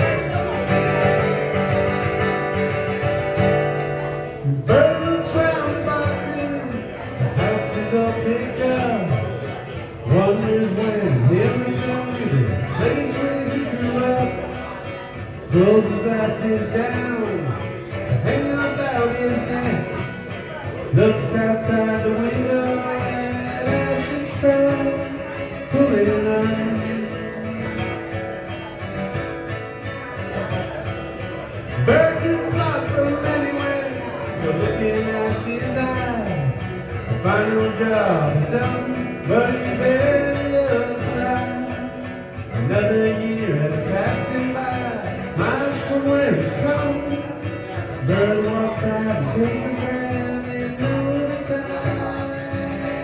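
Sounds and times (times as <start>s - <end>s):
guitar playing: 0.0s - 53.0s.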